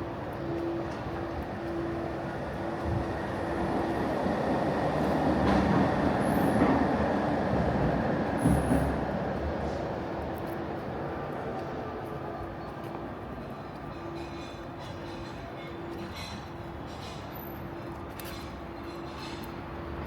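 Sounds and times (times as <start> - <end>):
tram rumbling past: 0.0 - 20.0.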